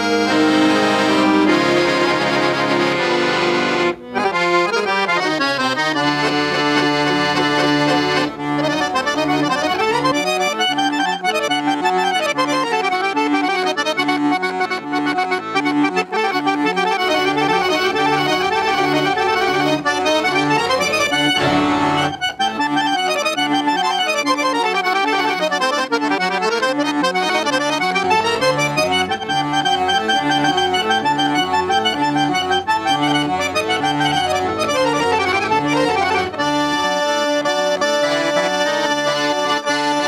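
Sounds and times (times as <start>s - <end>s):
accordion playing: 0.0s - 40.0s.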